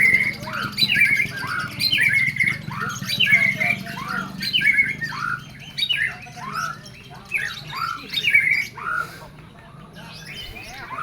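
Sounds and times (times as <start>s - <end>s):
songbird singing chirpy phrase: 0.0s - 11.0s.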